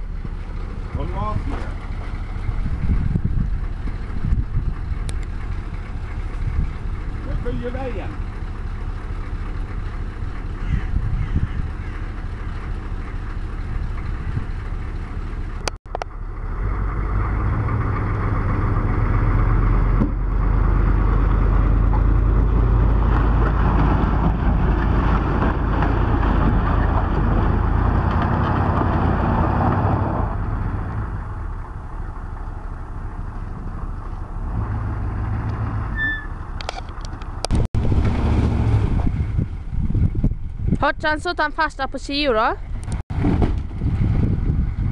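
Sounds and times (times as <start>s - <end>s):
road noise: 0.0s - 44.9s
truck engine under load: 0.0s - 44.9s.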